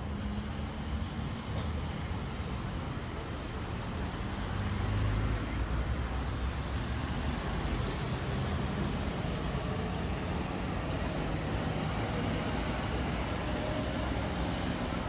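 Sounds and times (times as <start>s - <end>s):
car and bus engines running: 0.0s - 15.0s.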